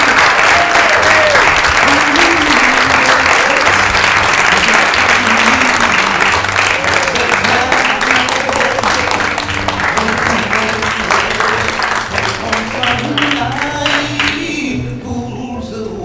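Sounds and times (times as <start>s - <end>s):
audience applauding: 0.0s - 14.5s
music playing as audience leaves: 0.0s - 16.0s.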